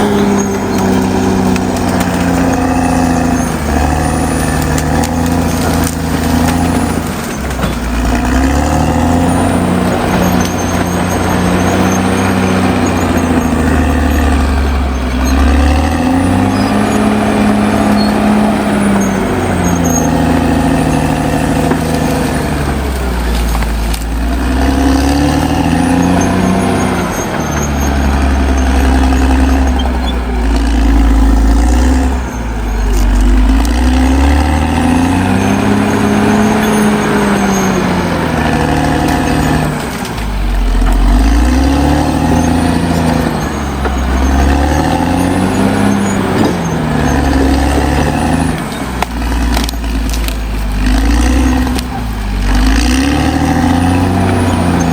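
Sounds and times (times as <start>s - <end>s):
bulldozer diesel engine: 0.0s - 54.9s.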